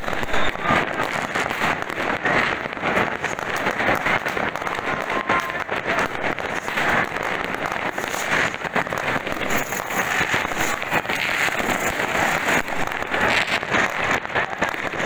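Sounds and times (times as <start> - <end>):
firecrackers and fireworks crackling: 0.0 - 15.0.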